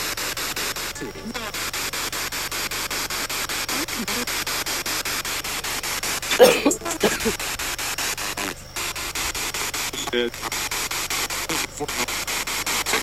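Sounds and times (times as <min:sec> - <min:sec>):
radio static sweeping: 0:00.0 - 0:13.0.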